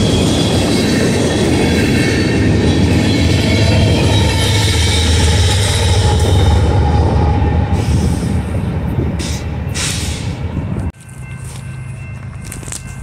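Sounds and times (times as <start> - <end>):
diesel locomotive rumble: 0.0 - 13.0
train wheels on rails: 0.0 - 13.0.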